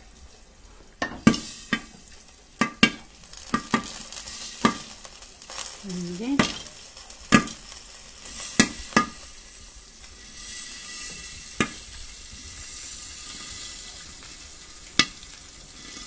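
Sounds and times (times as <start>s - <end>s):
corn kernels sizzling in oil: 0.0s - 16.0s.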